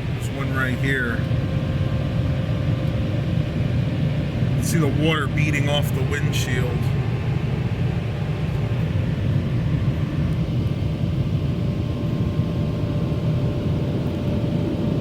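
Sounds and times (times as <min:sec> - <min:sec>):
dryer blowers rushing air: 0:00.0 - 0:15.0.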